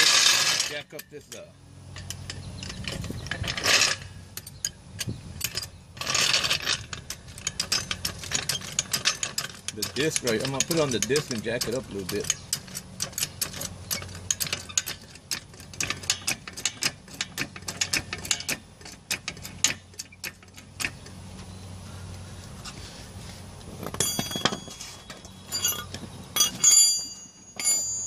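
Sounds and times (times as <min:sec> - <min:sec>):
ringing metallic clanks: 0:00.0 - 0:21.1, 0:23.8 - 0:28.0.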